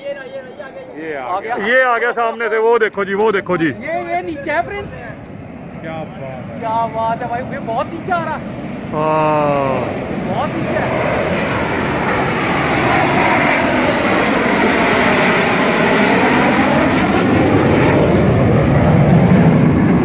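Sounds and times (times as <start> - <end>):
fighter jet passing overhead: 0.0 - 20.0.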